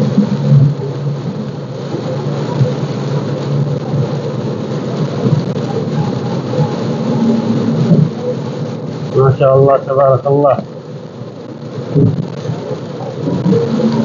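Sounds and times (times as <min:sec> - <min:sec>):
heavy rain on car roof: 0:00.0 - 0:14.0.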